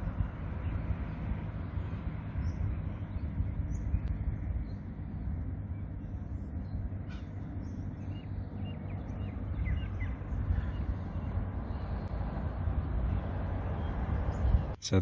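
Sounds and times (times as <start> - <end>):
low rumble of open-air ambience: 0.0 - 15.0.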